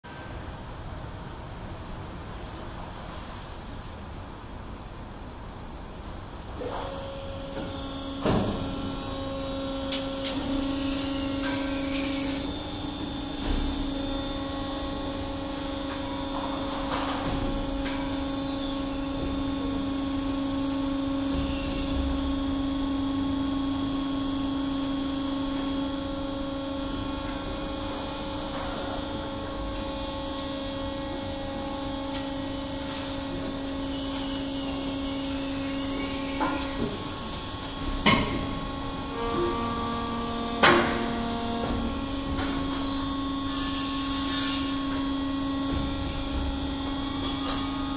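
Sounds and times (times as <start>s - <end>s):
conveyor machinery humming: 0.1s - 47.9s.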